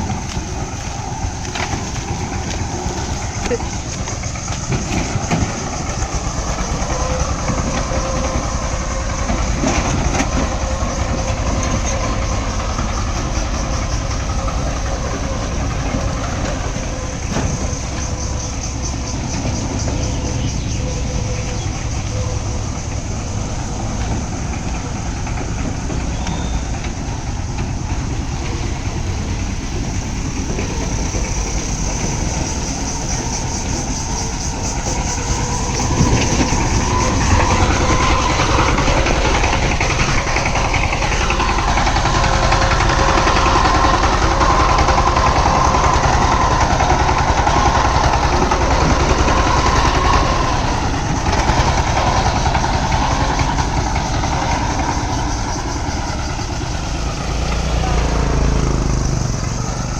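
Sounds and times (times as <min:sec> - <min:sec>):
plough engine running: 0:00.0 - 0:59.9.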